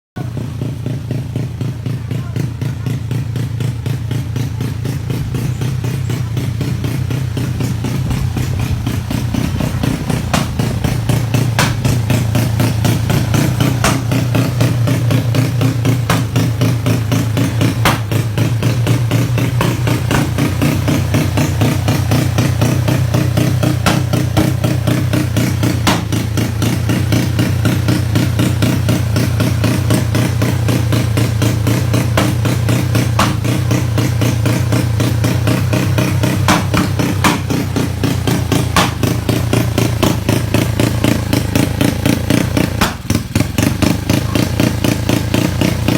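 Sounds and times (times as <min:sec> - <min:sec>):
scooter engine idling: 0:00.2 - 0:45.9.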